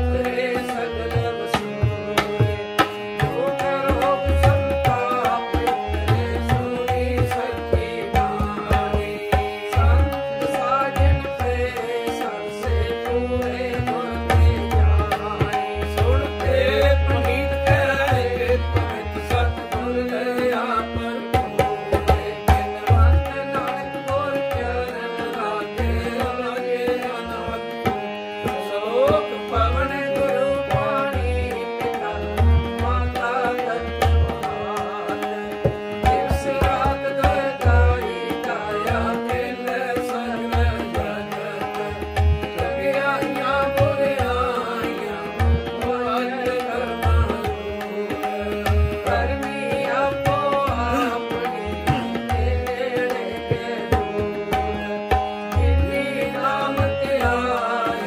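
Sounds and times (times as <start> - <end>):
harmonium melody: 0.0 - 58.0
tabla rhythm: 0.0 - 58.0.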